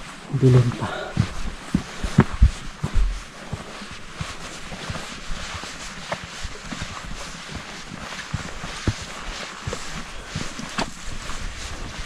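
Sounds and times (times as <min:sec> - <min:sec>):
footsteps on a trail: 0:00.0 - 0:12.0.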